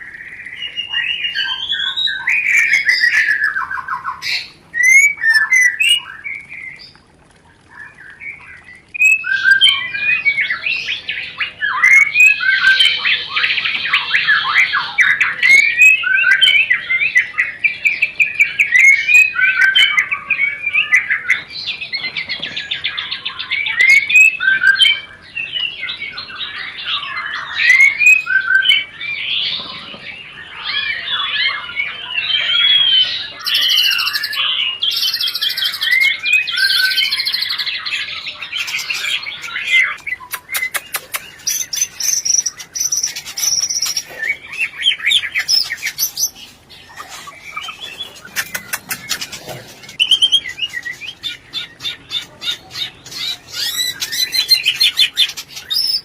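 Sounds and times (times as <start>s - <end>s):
bird chattering song: 0.0s - 7.0s, 7.7s - 56.0s.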